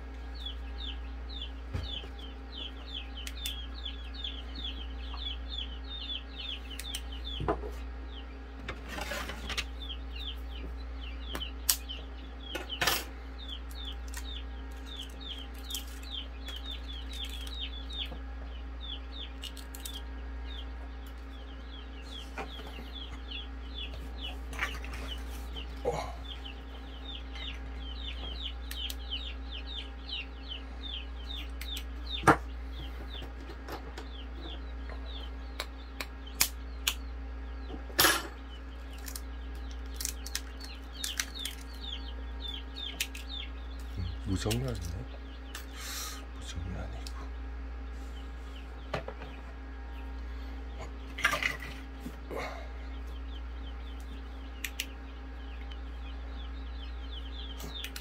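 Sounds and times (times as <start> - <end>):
chicks peeping: 0.0 - 58.0.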